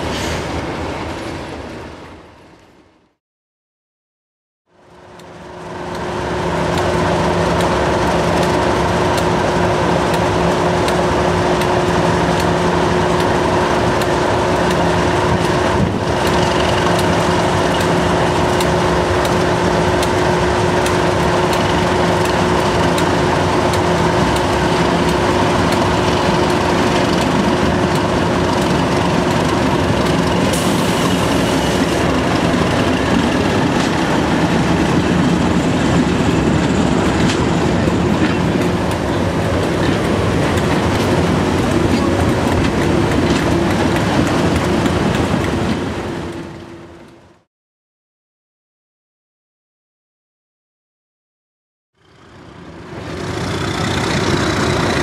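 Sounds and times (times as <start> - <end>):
diesel locomotive engine: 0.0 - 3.1, 4.7 - 47.5, 52.0 - 55.0.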